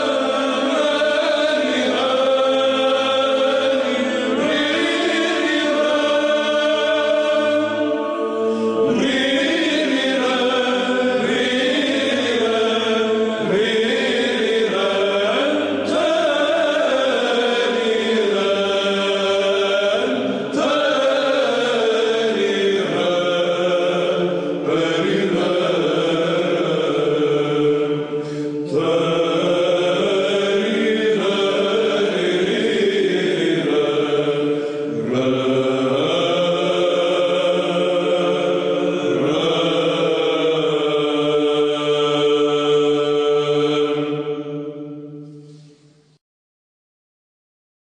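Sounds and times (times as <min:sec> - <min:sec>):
choir chanting: 0:00.0 - 0:46.2.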